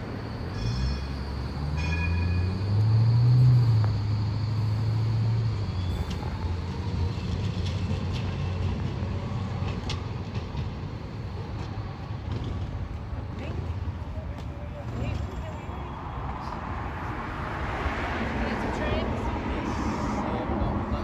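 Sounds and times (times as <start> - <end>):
electric tram motor hum: 0.0 - 21.0.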